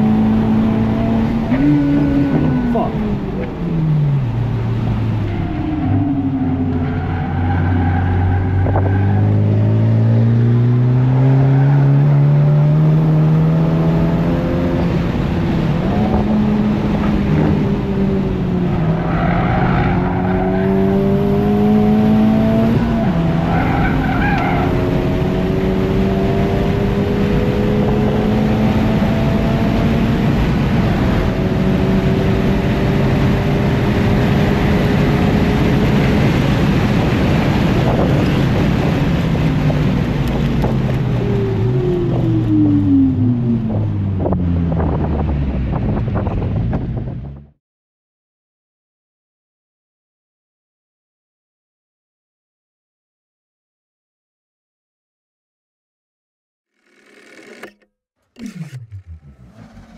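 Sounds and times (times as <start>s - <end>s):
car engine accelerating: 0.0s - 47.5s, 57.6s - 59.9s
road and wind noise: 0.0s - 47.6s, 57.6s - 59.9s.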